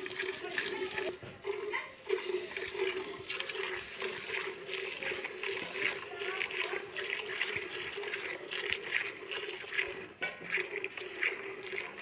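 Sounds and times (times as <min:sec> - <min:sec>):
milk squirting into pail: 0:00.0 - 0:12.0.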